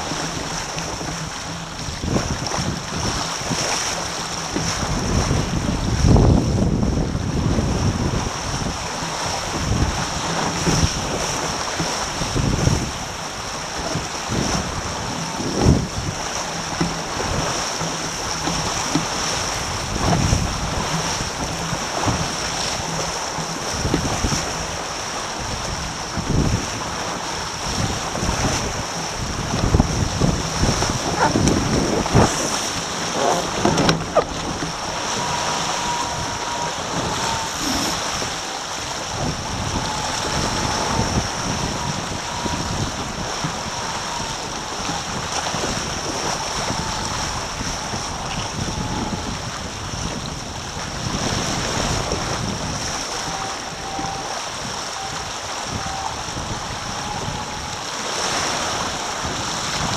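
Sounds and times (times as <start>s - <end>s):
hulls thumping on waves: 0.0s - 59.9s
water rushing past hulls: 0.0s - 59.9s
wind buffeting microphone: 0.0s - 59.9s.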